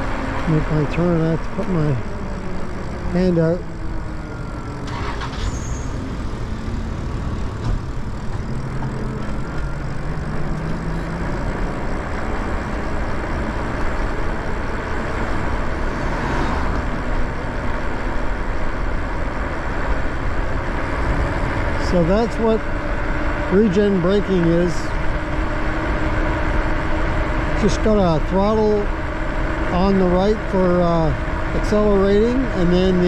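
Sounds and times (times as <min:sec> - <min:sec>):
bicycle tyre and road noise: 0:00.0 - 0:33.0.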